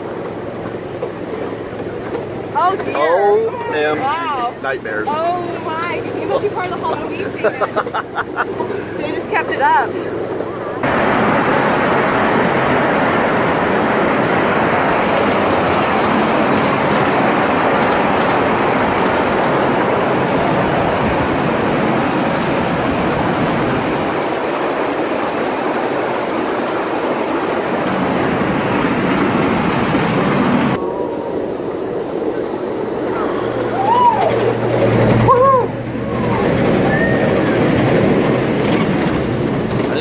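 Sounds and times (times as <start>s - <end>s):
train wheels running on rails: 0.0s - 40.0s.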